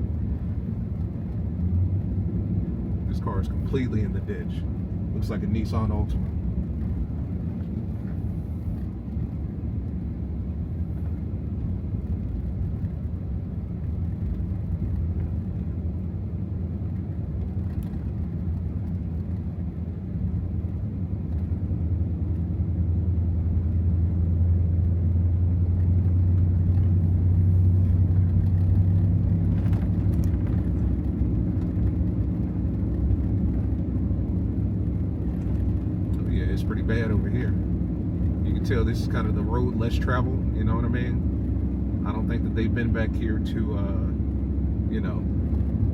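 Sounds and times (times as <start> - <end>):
truck engine drone: 0.0 - 45.9.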